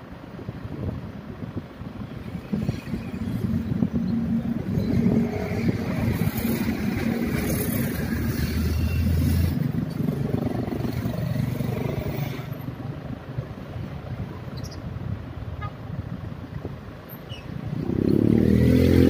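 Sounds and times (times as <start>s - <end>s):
vehicles driving past: 0.0s - 19.0s.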